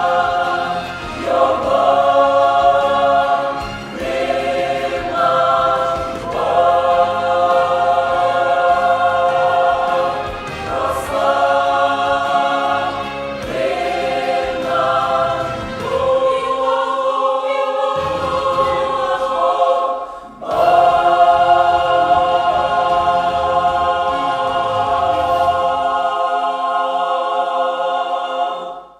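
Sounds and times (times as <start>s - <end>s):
youth choir singing a hymn: 0.0s - 28.9s.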